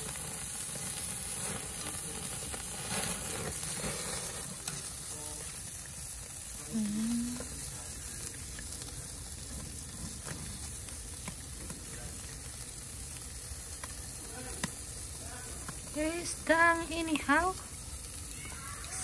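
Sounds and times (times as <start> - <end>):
fish sizzling on charcoal grill: 0.0 - 19.0.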